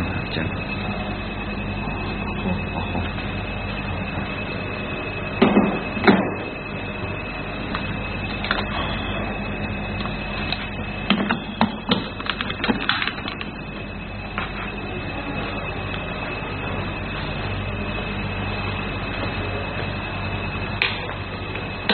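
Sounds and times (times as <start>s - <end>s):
steady hum: 0.0s - 21.9s.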